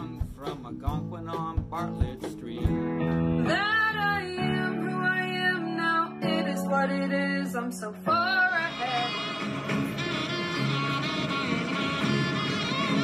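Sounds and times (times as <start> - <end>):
electronic keyboard chords: 2.4 - 13.0.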